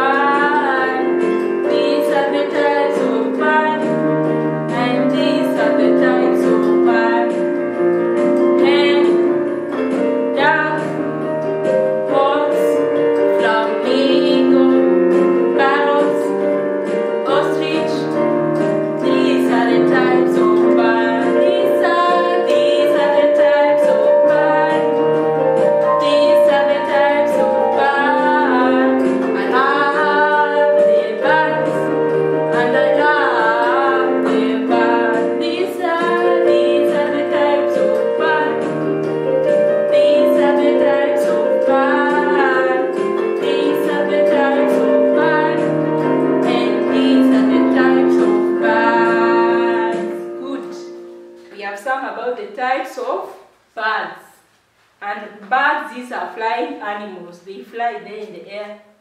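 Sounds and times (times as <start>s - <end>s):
music with held chords: 0.0s - 51.6s
woman singing with vibrato: 0.0s - 59.0s.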